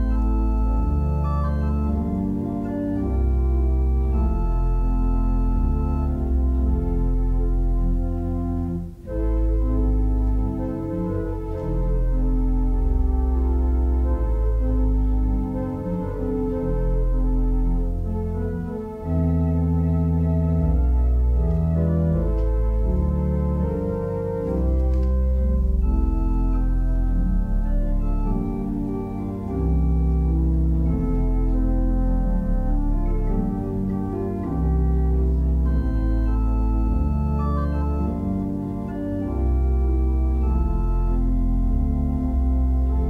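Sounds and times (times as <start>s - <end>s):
organ chords over bass notes: 0.0s - 43.0s.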